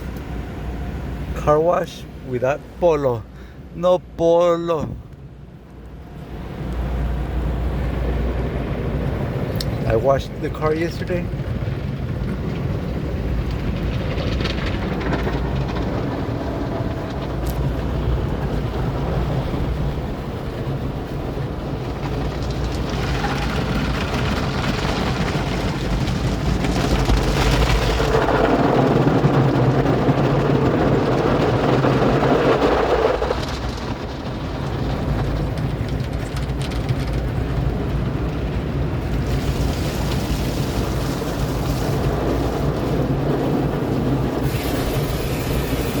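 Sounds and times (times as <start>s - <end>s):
low mechanical hum: 0.0s - 46.0s
water spraying against car: 6.4s - 46.0s.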